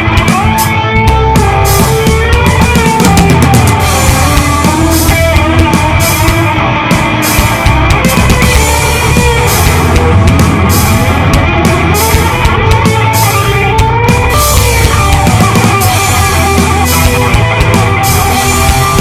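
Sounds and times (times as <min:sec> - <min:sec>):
heavy rock music: 0:00.0 - 0:19.0.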